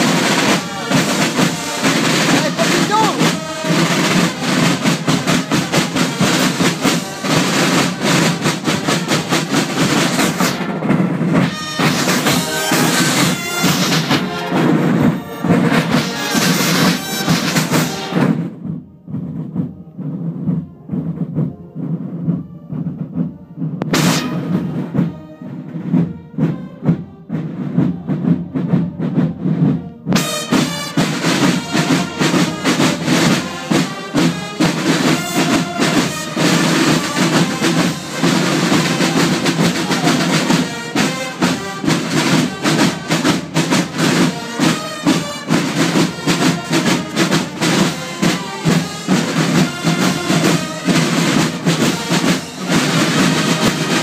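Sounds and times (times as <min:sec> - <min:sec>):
high-pitched wind instruments: 0:00.0 - 0:54.0
side drums beating a march: 0:00.0 - 0:54.0.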